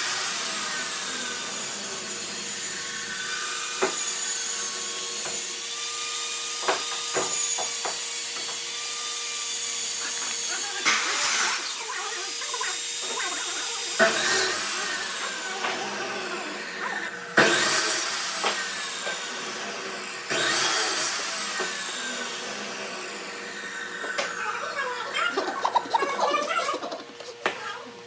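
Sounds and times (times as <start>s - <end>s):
power tool whirring on wood: 0.0s - 28.0s.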